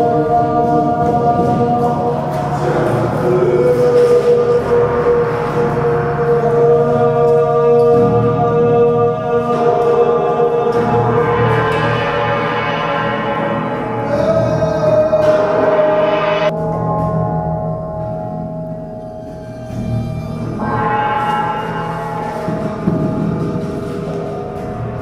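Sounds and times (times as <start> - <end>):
metal sculptures ringing like gongs: 0.0 - 25.0.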